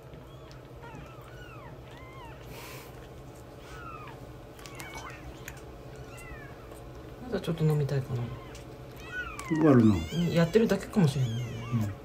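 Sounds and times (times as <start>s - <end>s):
kittens mewing: 0.0s - 12.0s.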